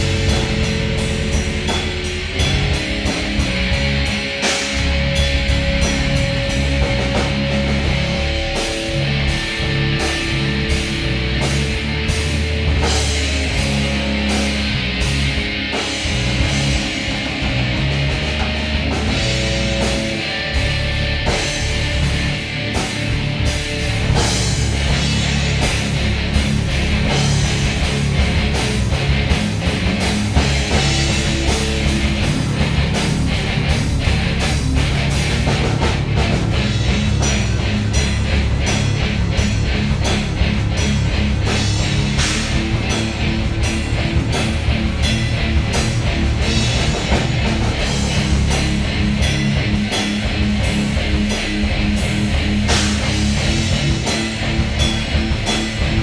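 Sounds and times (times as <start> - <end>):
bass guitar: 0.0 - 56.0
distorted electric guitar: 0.0 - 56.0
drum kit: 0.0 - 56.0.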